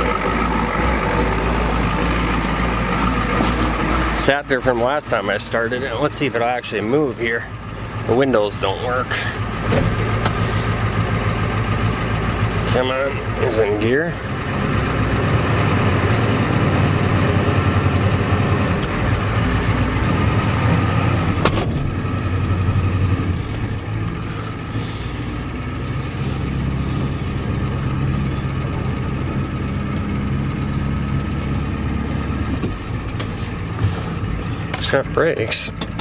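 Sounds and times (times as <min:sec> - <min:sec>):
diesel engine running rough: 0:00.0 - 0:36.0.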